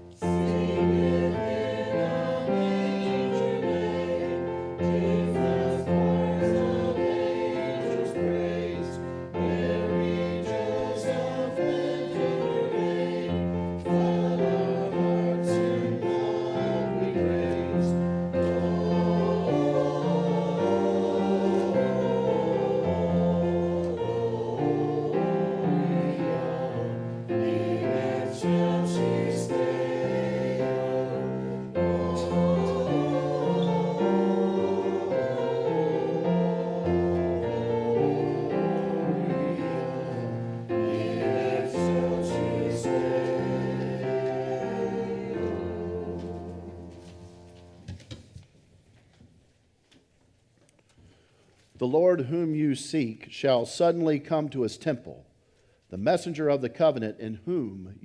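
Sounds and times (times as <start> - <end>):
choir singing: 0.0 - 47.7
musical accompaniment: 0.0 - 47.9.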